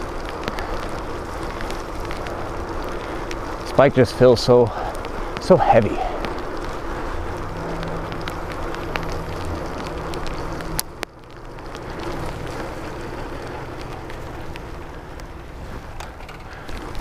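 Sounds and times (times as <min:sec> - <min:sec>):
bicycle tyres hissing on wet pavement: 0:00.0 - 0:17.0.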